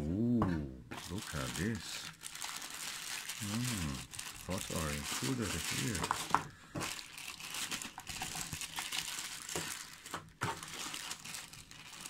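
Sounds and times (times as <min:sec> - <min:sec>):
plastic bag crinkling: 0:01.0 - 0:12.0.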